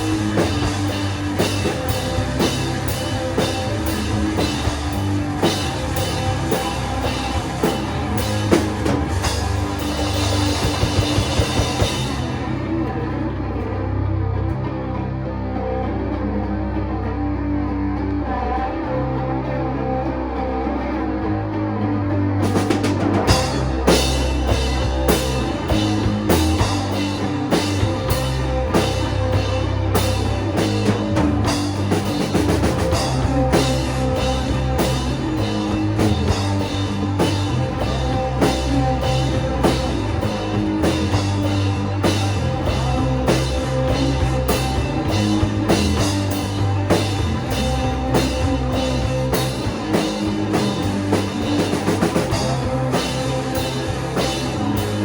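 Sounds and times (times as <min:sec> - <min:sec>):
drum kit steady beat: 0:00.0 - 0:12.5, 0:22.5 - 0:55.0
bass line: 0:00.0 - 0:55.0
rock guitars: 0:00.0 - 0:55.0.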